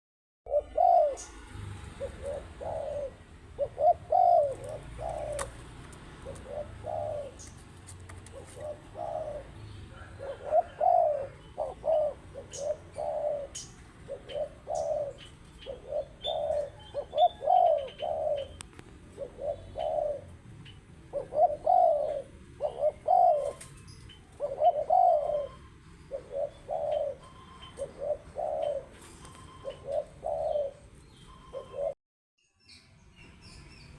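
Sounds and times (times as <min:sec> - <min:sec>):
dove cooing: 0:00.5 - 0:32.0
small birds chirping: 0:00.5 - 0:33.9.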